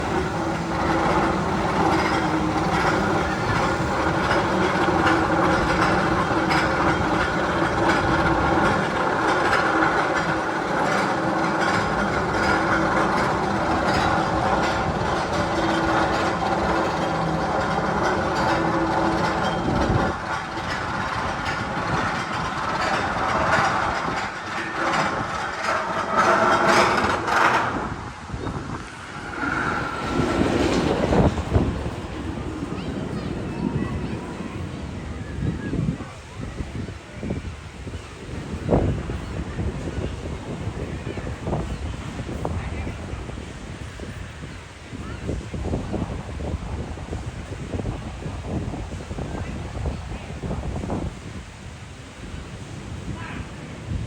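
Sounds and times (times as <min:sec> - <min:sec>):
roller coaster clattering on track: 0:00.0 - 0:54.0.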